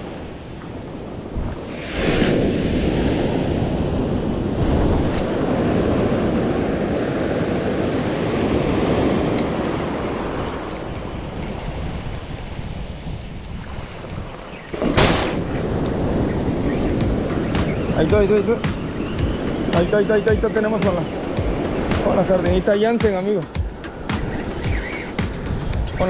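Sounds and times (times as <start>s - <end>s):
wind buffeting microphone: 0.0s - 23.0s
sea waves washing: 0.0s - 26.0s.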